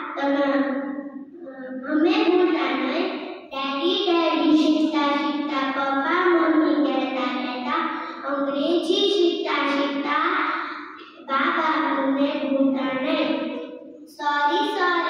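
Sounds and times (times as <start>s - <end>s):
child reciting in sing-song voice: 0.0s - 15.0s.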